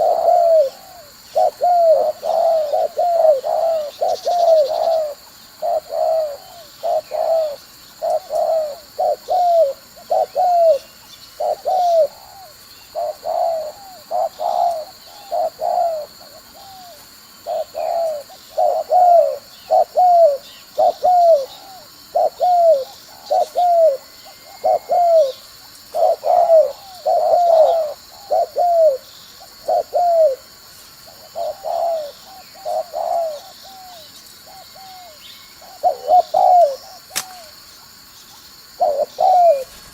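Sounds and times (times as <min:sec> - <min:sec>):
dove cooing: 0:00.0 - 0:37.6, 0:38.7 - 0:39.9
faint bird chirps: 0:00.0 - 0:39.9.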